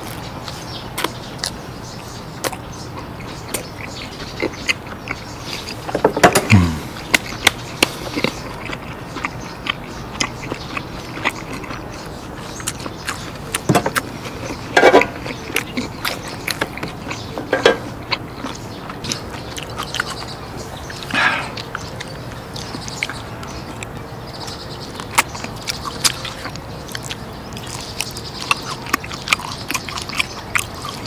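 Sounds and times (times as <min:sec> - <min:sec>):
chewing: 0:00.0 - 0:31.0.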